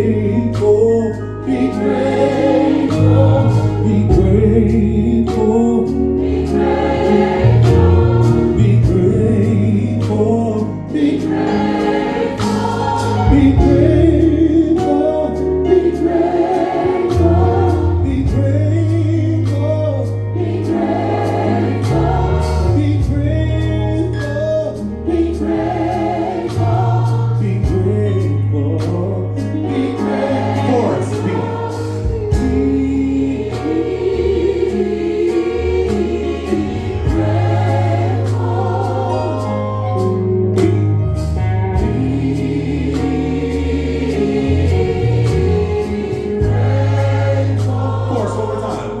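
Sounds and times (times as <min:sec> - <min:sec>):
gospel choir singing: 0:00.0 - 0:49.0
low bass notes: 0:00.0 - 0:49.0.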